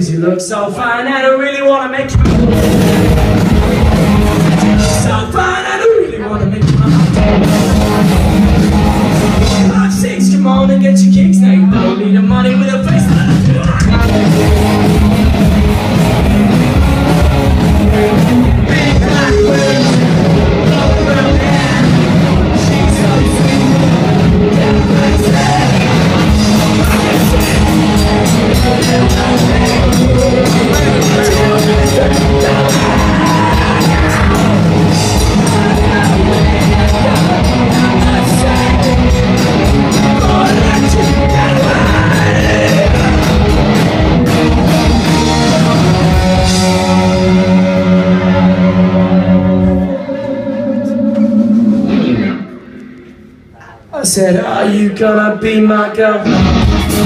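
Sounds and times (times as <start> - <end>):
live rock band playing: 1.4 - 53.6, 56.2 - 57.0
steady drum beat: 2.1 - 48.2.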